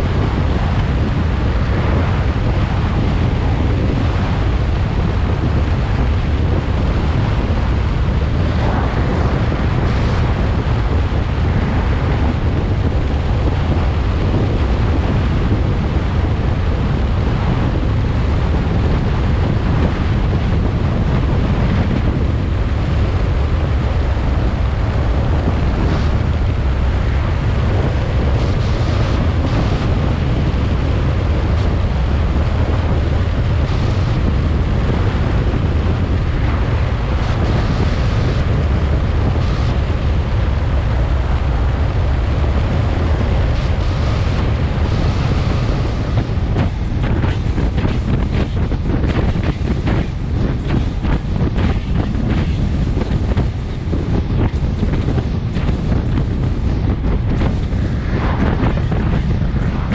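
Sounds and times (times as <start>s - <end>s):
low road rumble: 0.0s - 59.9s
wind buffeting microphone: 0.0s - 59.9s.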